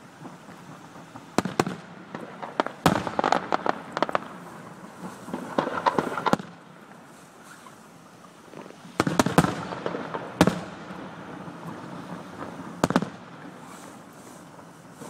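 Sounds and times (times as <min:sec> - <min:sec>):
firework bangs: 0:00.0 - 0:07.8, 0:08.4 - 0:15.0
firework crackling: 0:00.0 - 0:15.0.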